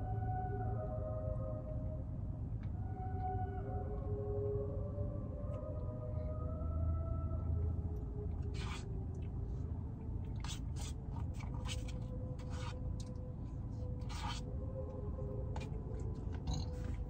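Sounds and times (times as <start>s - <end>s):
faint radio music: 0.0s - 17.0s
steady low hum: 0.0s - 17.0s.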